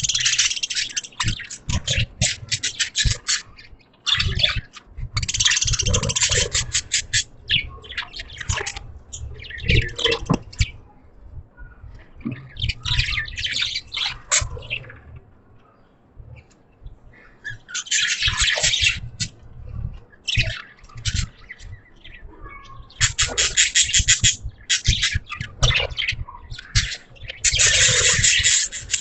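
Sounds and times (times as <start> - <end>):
budgies chirping: 0.0 - 29.0.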